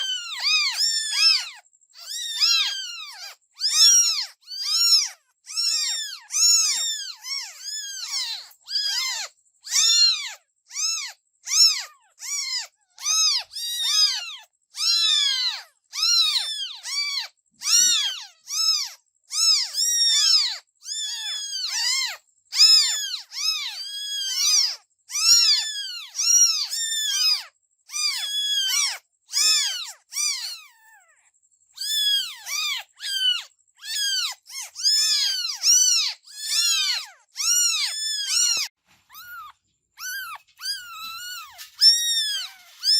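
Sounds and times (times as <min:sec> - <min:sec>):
kittens meowing: 0:00.0 - 0:42.9.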